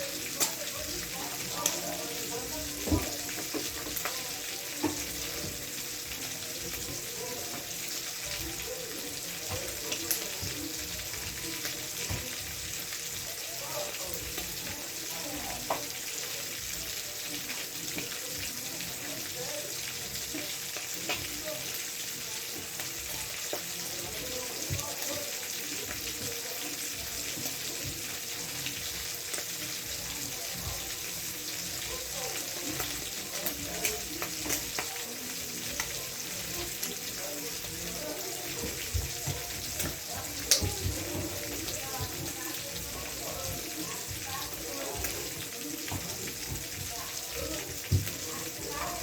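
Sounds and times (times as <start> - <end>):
tap water running into sink: 0.1 - 13.3, 22.5 - 49.0.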